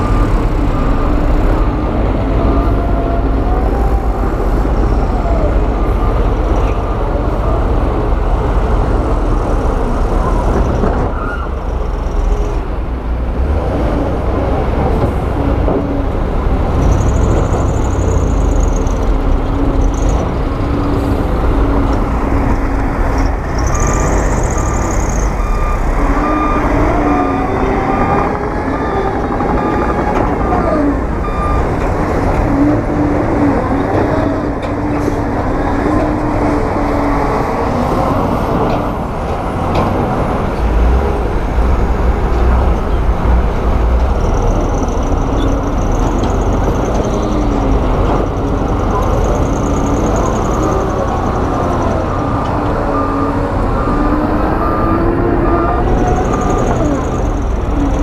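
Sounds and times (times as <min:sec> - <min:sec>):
heavy machinery engines running: 0:00.0 - 0:58.0.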